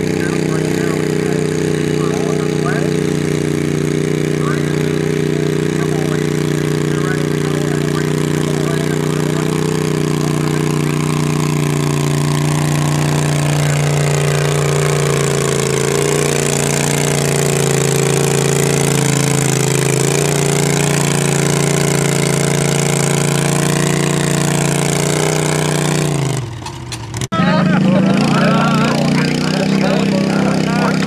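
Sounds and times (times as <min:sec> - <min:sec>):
garden tractor engine under load: 0:00.0 - 0:31.0.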